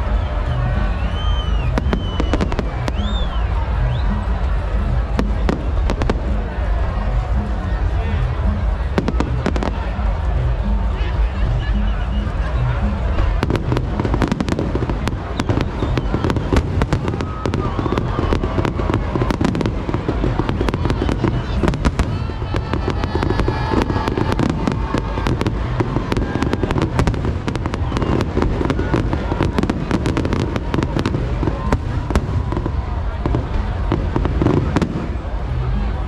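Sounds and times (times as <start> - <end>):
fireworks bangs and crackles: 0.0 - 11.3, 12.2 - 36.0.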